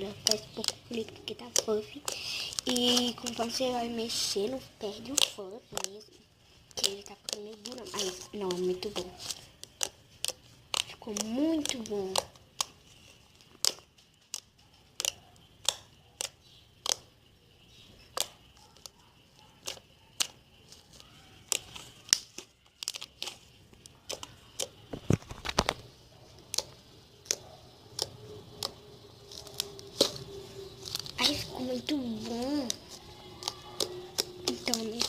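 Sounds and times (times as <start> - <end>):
slime popping and clicking: 0.1 - 3.7, 4.9 - 6.1, 6.7 - 17.1, 18.0 - 19.0, 19.6 - 25.8, 26.5 - 35.0.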